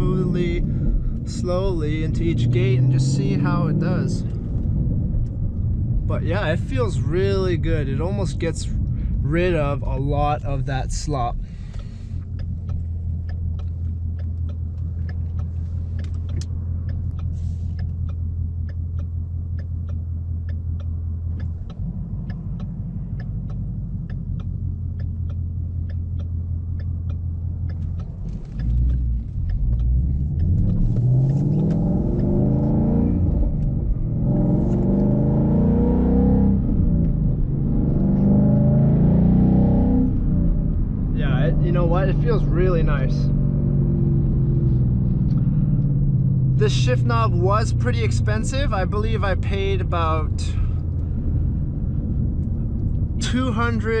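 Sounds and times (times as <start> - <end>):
car engine from inside cabin: 0.0 - 54.0
faint regular ticking: 0.1 - 35.2, 44.8 - 54.0.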